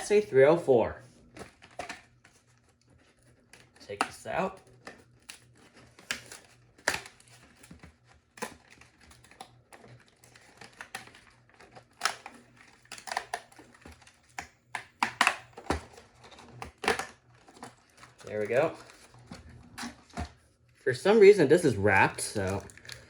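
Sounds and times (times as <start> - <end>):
packaging being handled: 1.2 - 23.0.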